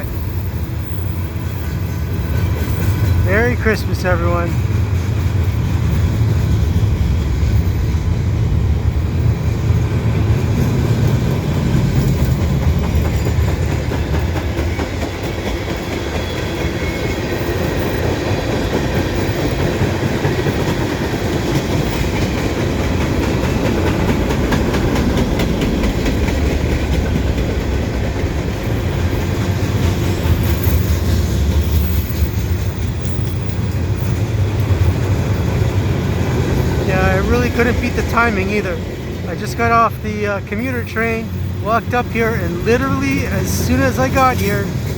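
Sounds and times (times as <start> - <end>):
freight train wheels rumbling on rails: 0.0 - 44.9.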